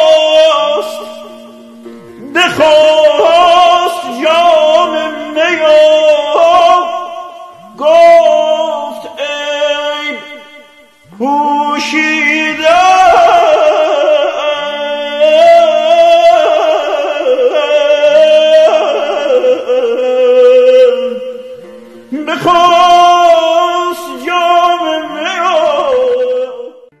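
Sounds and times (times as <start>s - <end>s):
man singing: 0.0s - 27.0s.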